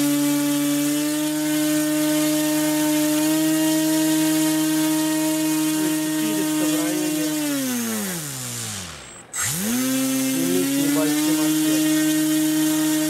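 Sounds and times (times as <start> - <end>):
electric motor propeller whine: 0.0 - 13.0.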